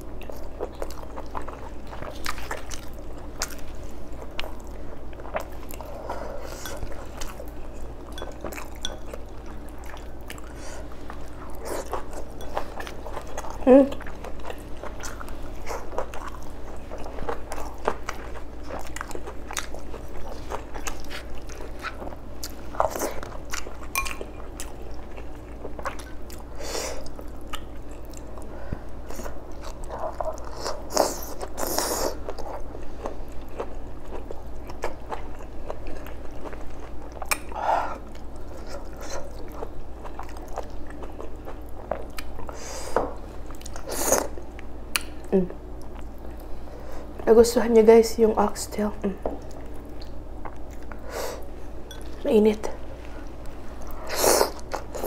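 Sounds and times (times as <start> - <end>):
person chewing food: 0.1 - 47.2, 49.3 - 52.2, 53.0 - 55.0.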